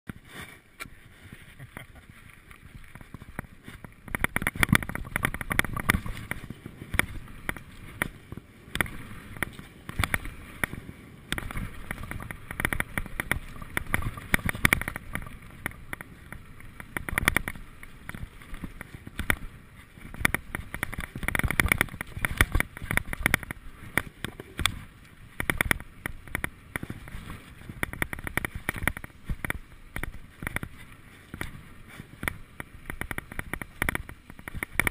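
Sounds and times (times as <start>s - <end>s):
wind on microphone: 0.1s - 34.9s
bike chain and frame rattling: 2.9s - 34.9s.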